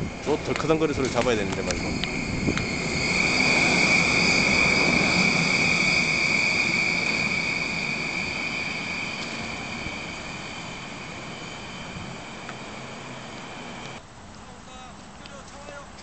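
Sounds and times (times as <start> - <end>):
maglev train high whine: 0.0 - 14.0
rushing noise: 0.0 - 14.0.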